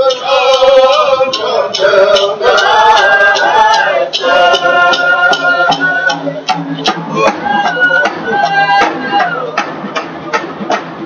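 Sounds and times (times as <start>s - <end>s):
man singing long held notes: 0.0s - 9.6s
steady percussion beat: 0.0s - 11.0s.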